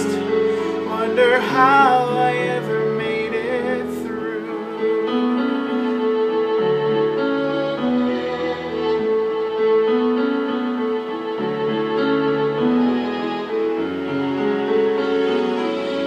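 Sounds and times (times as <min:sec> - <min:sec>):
piano and keyboard chords: 0:00.0 - 0:16.0
strings: 0:00.0 - 0:16.0.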